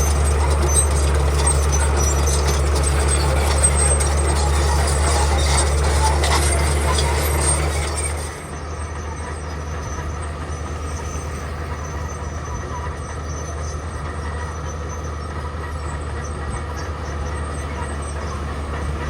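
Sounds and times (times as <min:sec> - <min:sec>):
diesel engine drone: 0:00.0 - 0:19.0
machinery clanking and scraping: 0:00.0 - 0:19.0.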